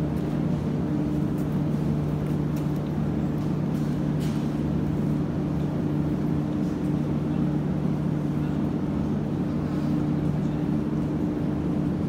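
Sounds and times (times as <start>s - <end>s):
train equipment low hum: 0.0s - 12.0s.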